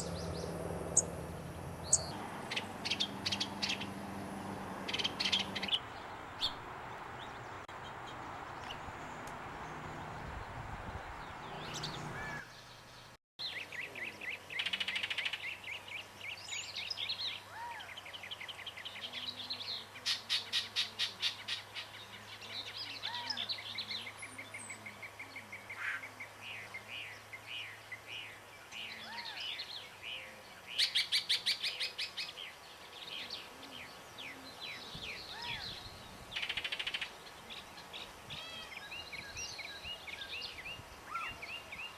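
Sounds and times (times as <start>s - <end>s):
birds chirping and trilling: 0.0s - 41.9s.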